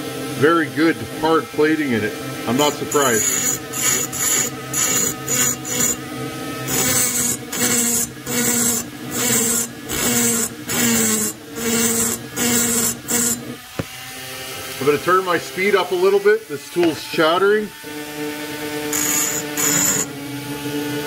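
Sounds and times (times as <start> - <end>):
rotary grinder whine: 0.0 - 21.0
grinder burr rasping on metal: 0.8 - 20.2.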